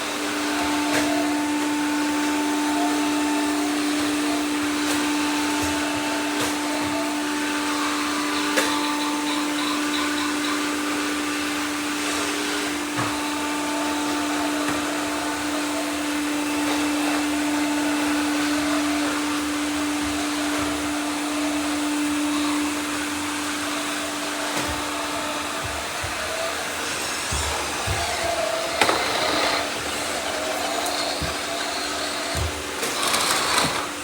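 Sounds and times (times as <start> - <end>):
robot vacuums humming: 0.0 - 34.0.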